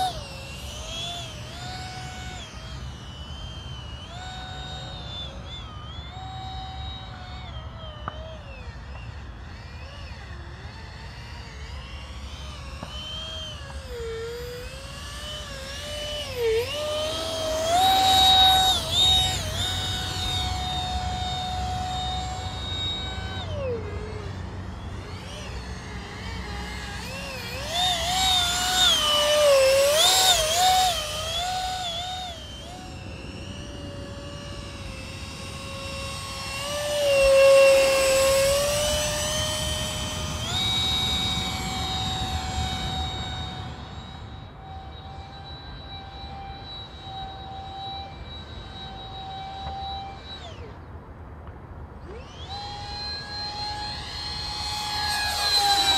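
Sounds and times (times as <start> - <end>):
electric ducted fan whining: 0.0 - 55.9.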